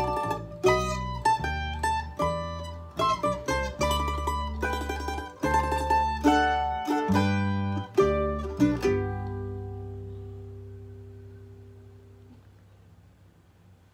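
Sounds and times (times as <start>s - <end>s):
plucked mandolin notes: 0.0s - 12.6s
acoustic bass guitar notes: 0.0s - 13.9s.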